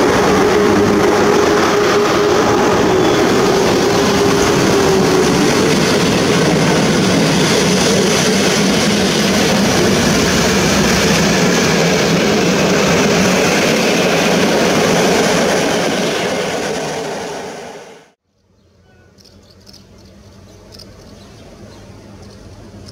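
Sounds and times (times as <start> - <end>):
train wheels rumbling on rails: 0.0 - 18.2, 18.9 - 22.9.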